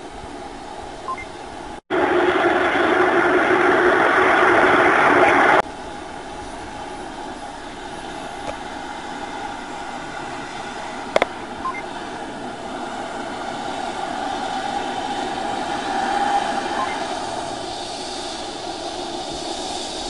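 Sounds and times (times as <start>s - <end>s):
helicopter rotor noise: 0.0s - 20.0s
helicopter turbine whine: 0.0s - 20.0s.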